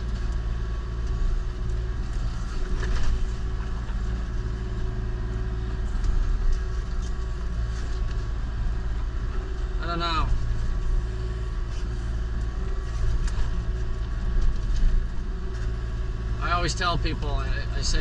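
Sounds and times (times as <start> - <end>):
excavator diesel engine under load: 0.0 - 18.0.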